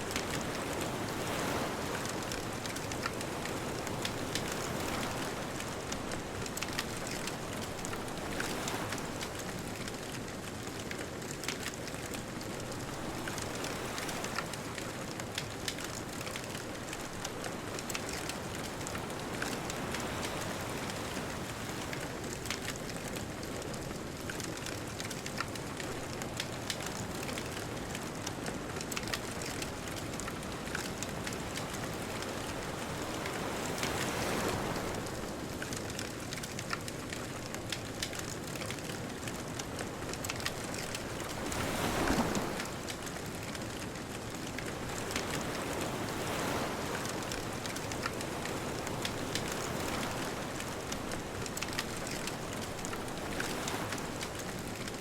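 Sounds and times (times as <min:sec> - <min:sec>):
ocean waves: 0:00.0 - 0:55.0
bonfire crackling: 0:00.1 - 0:55.0.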